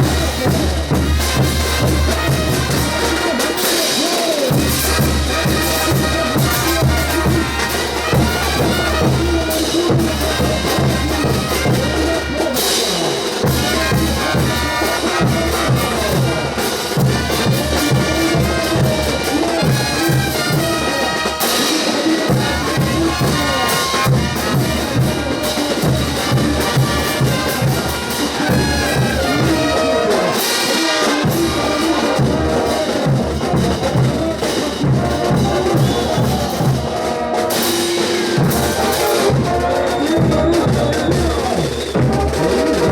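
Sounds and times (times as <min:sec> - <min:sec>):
steady drum beats: 0:00.0 - 0:42.9
trumpets and trombones: 0:00.0 - 0:42.9.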